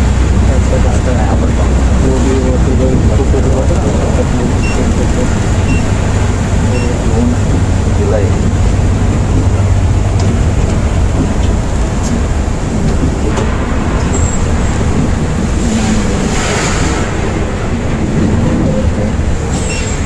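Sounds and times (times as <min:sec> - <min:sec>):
coach engine and road rumble: 0:00.0 - 0:20.0.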